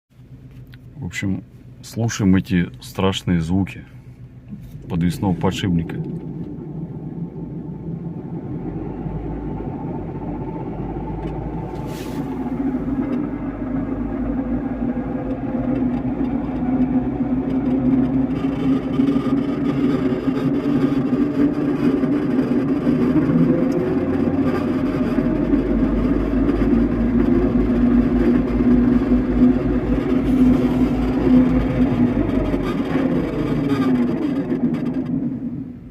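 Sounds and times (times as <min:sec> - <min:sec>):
bearing howling under car: 0:03.6 - 0:35.9.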